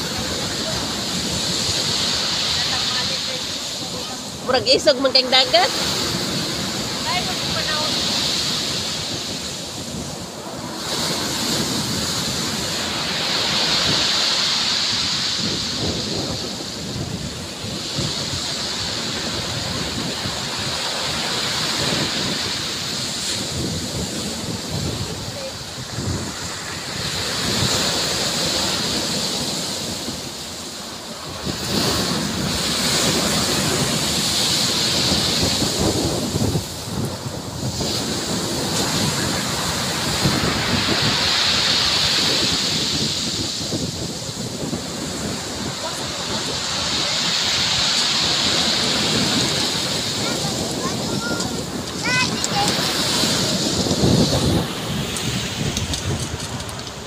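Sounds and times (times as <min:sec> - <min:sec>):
surf breaking on pebble beach: 0:00.0 - 0:57.0
wind buffeting microphone: 0:00.0 - 0:57.0.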